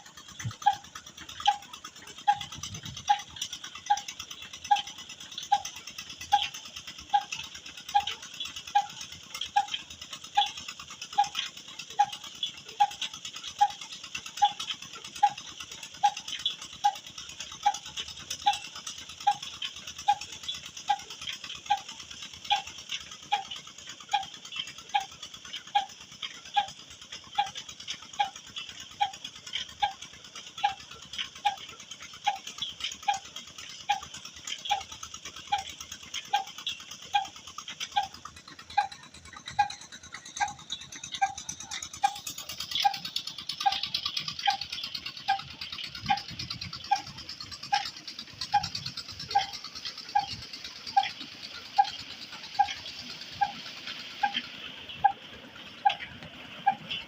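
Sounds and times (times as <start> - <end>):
stationary engine running slowly: 0.0 - 57.0.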